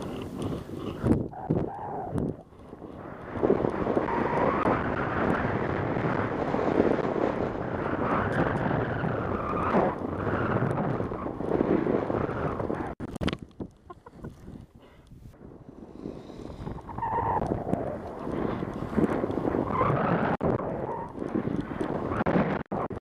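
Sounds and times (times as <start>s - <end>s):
wind on microphone: 0.0s - 23.0s.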